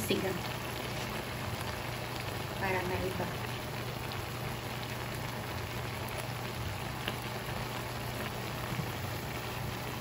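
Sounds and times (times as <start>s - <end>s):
shrimp sizzling in a wok: 0.0s - 10.0s.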